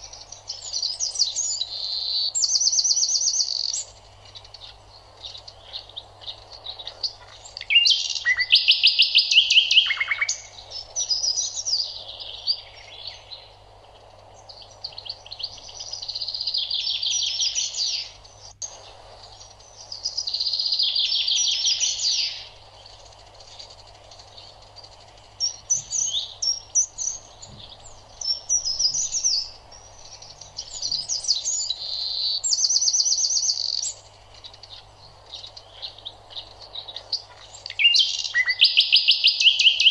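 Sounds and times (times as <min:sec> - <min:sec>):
faint steady hum: 0:00.0 - 0:39.9
songbirds trilling and chirping: 0:00.0 - 0:39.9.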